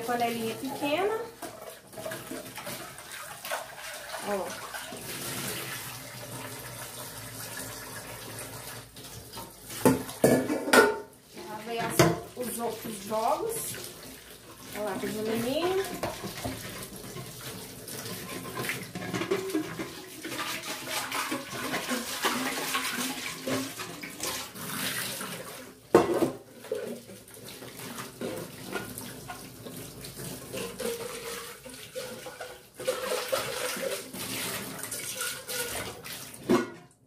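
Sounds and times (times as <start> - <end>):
tap water splashing on metal pots: 0.0 - 37.0.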